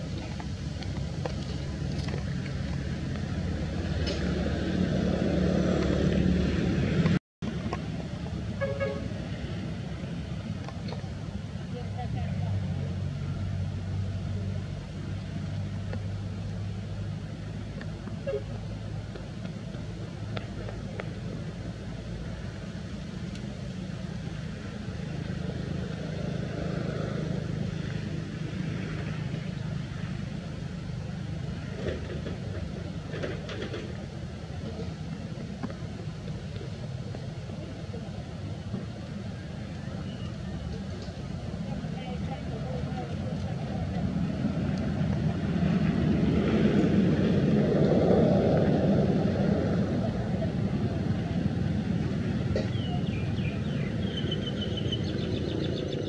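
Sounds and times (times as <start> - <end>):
vehicle engine rumble: 0.0 - 56.0.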